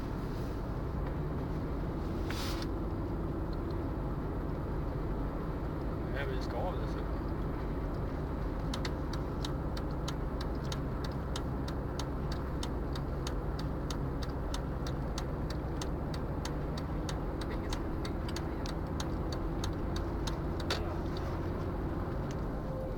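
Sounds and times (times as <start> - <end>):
engine and tyre rumble: 0.0 - 22.9
turn signal ticking: 2.7 - 22.9.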